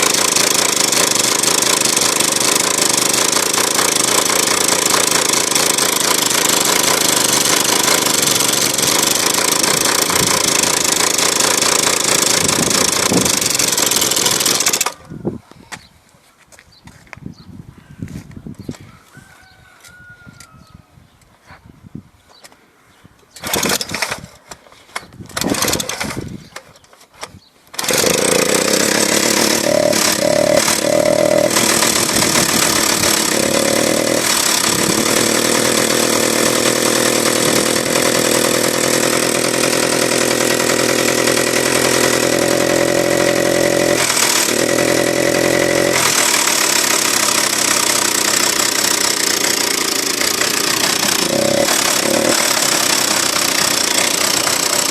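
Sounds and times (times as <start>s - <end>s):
chainsaw engine starting and running: 0.0s - 15.1s, 23.4s - 26.3s, 27.7s - 54.9s.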